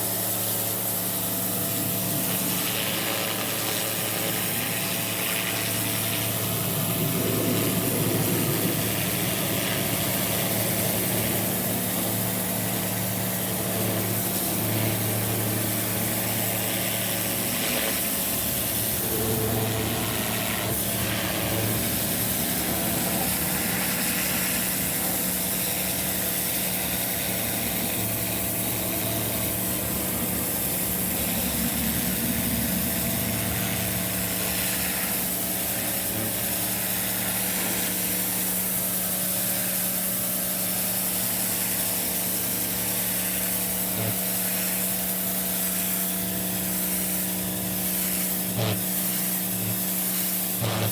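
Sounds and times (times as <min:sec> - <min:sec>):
pressure washer motor humming: 0:00.0 - 0:50.9
water jet hissing: 0:00.0 - 0:50.9.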